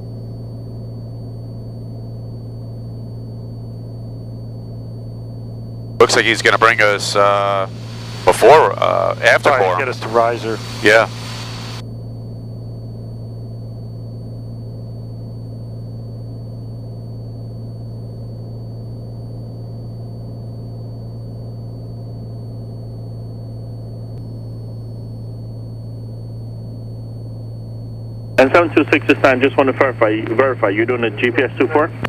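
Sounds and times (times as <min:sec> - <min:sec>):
propeller plane engine droning: 0:00.0 - 0:22.4, 0:23.6 - 0:32.0.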